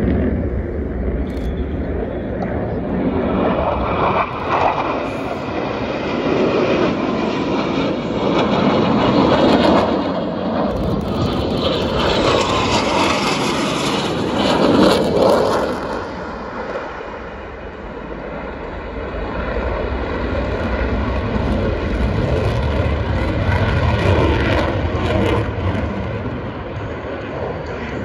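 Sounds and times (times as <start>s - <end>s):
jet fighters passing overhead: 0.0s - 28.0s.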